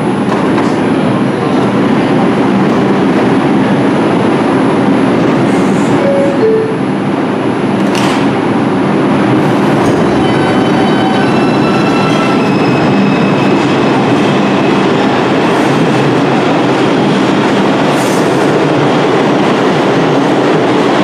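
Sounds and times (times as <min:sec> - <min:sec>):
subway train rumbling on rails: 0:00.0 - 0:21.0
train whine: 0:00.0 - 0:21.0.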